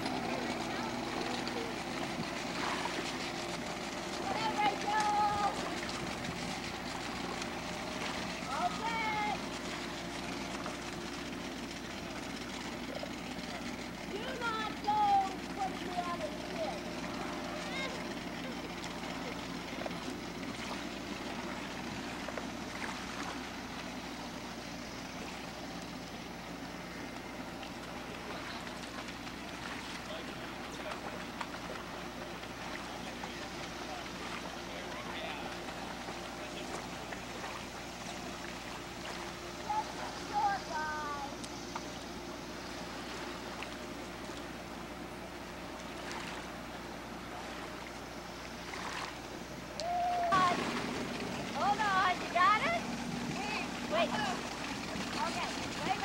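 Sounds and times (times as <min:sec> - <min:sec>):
motorboat engine humming: 0:00.0 - 0:56.0
water wash: 0:00.0 - 0:56.0.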